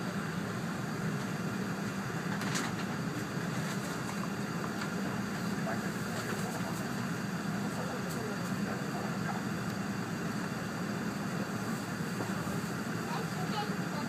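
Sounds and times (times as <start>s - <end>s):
train cabin rumble and hum: 0.0s - 14.0s.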